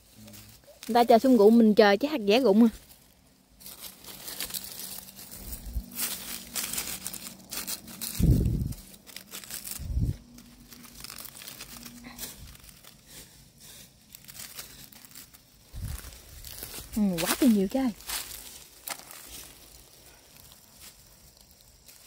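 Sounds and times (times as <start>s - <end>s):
dry leaves crackling and rustling: 0.0s - 22.0s.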